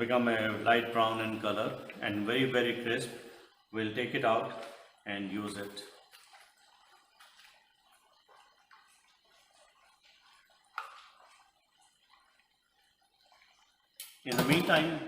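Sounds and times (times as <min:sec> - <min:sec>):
oil crackling in deep fryer: 0:00.0 - 0:15.0.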